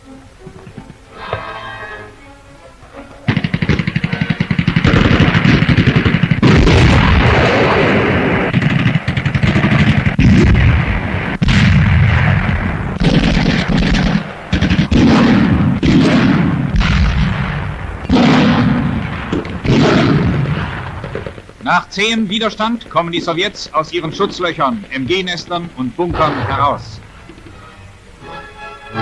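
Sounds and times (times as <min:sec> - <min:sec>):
machine-gun fire: 0:02.9 - 0:28.0
heavy gun blasts: 0:03.0 - 0:28.0.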